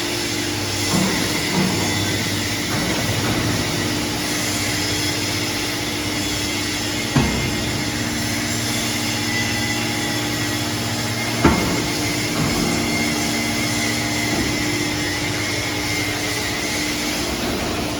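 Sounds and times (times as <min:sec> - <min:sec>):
hydraulic power unit humming: 0:00.0 - 0:17.9.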